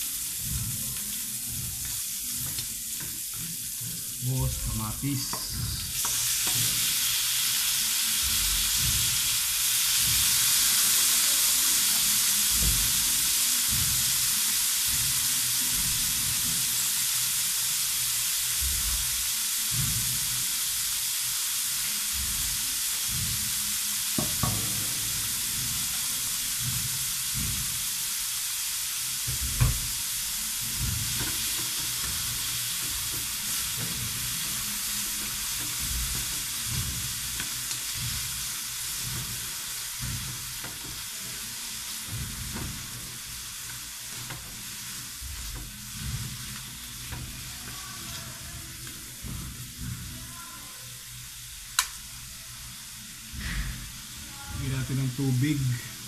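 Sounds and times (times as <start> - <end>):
vegetables sizzling in oil: 0.0 - 56.0.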